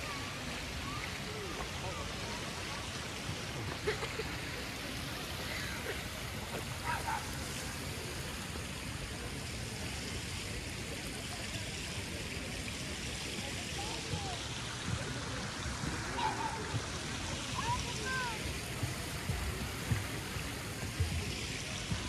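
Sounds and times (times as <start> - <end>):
faint distant voices: 0.0 - 22.0
running water rushing: 0.0 - 22.0.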